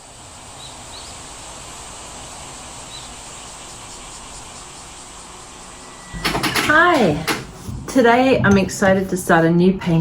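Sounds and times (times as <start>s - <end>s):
steady background hiss: 0.0s - 8.6s.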